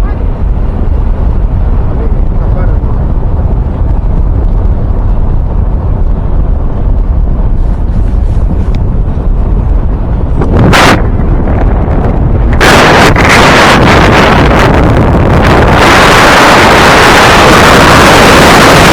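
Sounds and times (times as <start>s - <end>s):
moving vehicle rumble: 0.0s - 18.9s
wind buffeting microphone: 0.0s - 18.9s.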